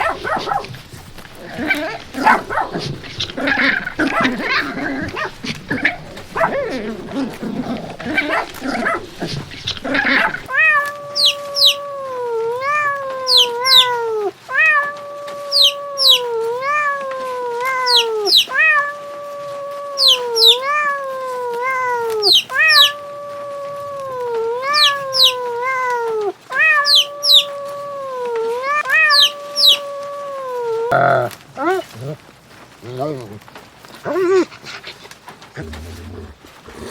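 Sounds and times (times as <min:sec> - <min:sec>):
cat meowing: 0:00.0 - 0:32.2.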